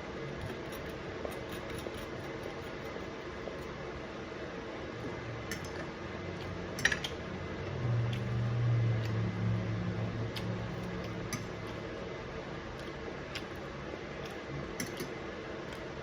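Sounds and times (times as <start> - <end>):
low droning hum: 0.0 - 16.0.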